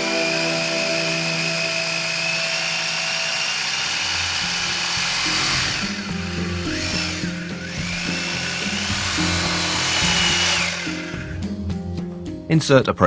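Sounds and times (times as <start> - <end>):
electric drill boring into wall: 0.0 - 11.8
background music: 0.0 - 13.0.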